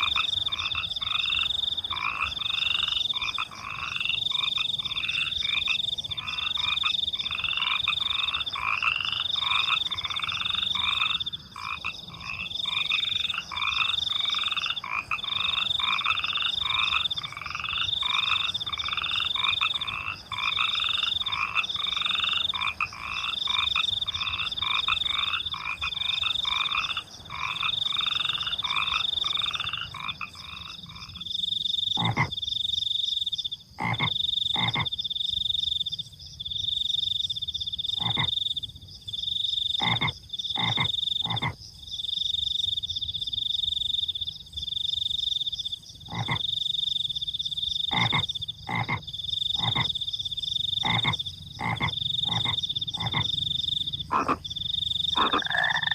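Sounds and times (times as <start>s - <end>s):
crickets trilling: 0.0s - 55.9s
frogs croaking: 0.0s - 55.9s.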